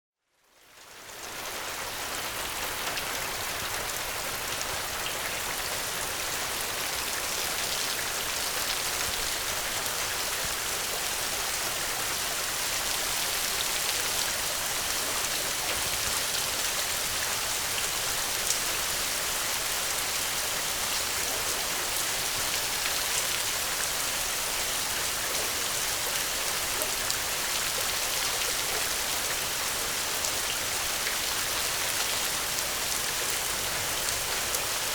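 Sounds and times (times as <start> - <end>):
steady rainfall: 0.3 - 34.9.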